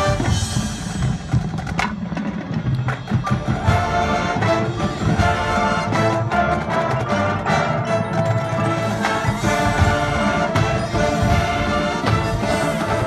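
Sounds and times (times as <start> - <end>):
marching band playing: 0.0 - 13.0
percussion strikes: 0.0 - 13.0.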